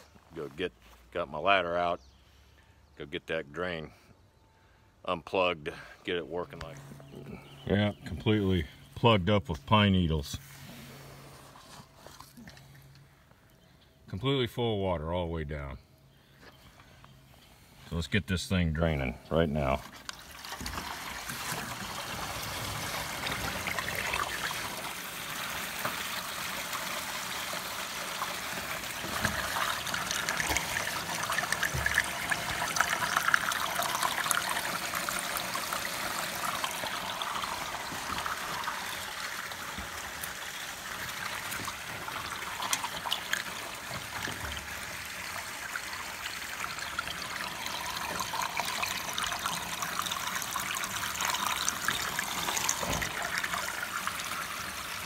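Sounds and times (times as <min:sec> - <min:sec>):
water trickling from downspout: 0:05.4 - 0:13.6, 0:17.4 - 0:55.0.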